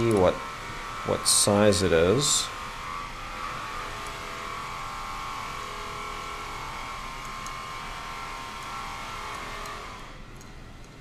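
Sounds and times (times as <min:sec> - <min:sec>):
woodworking machine whining: 0:00.0 - 0:10.2.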